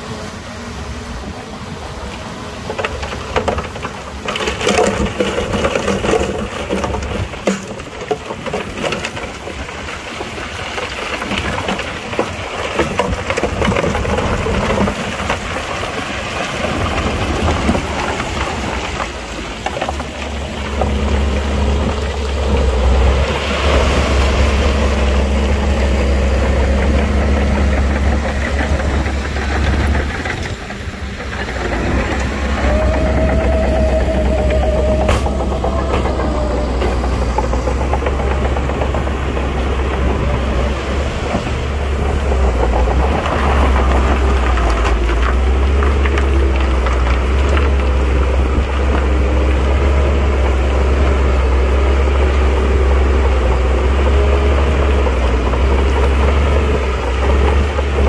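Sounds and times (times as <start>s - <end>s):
diesel engines under load: 0.0s - 58.0s
rock clattering: 2.6s - 58.0s.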